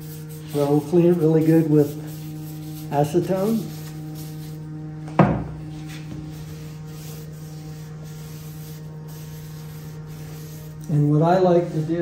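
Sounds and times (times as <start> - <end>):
rag rubbing: 0.0 - 4.7, 5.6 - 12.0
low electrical hum: 0.0 - 12.0.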